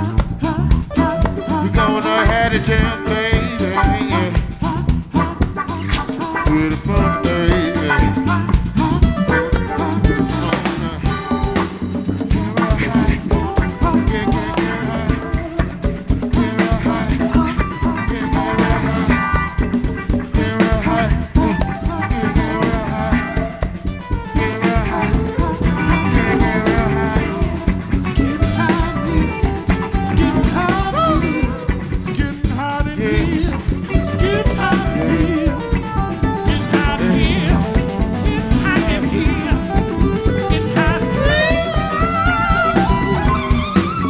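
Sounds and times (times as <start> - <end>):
drum kit beat: 0.0 - 44.0
electric guitar lead bending: 0.0 - 44.0
live band playing: 0.0 - 44.0.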